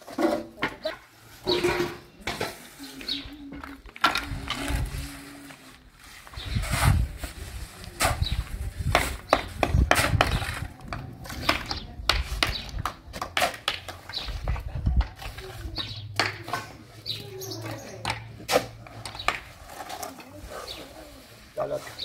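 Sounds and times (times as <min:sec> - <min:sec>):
trowels tapping and scraping blocks: 0:00.0 - 0:22.0.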